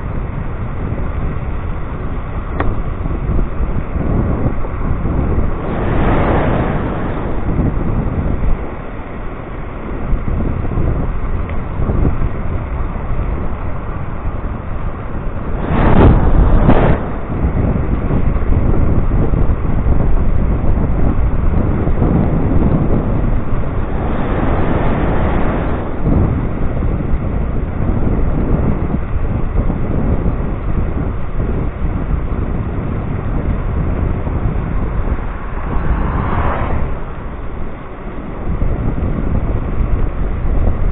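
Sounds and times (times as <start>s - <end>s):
electric scooter ride noise: 0.0s - 40.9s
wind rumbling on microphone: 0.0s - 40.9s.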